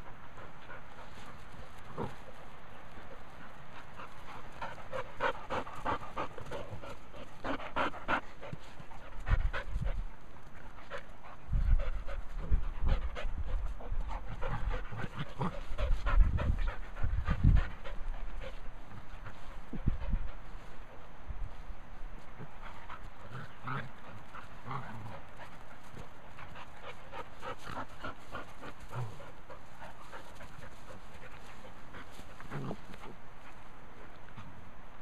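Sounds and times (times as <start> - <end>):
dogs panting: 0.0 - 35.0.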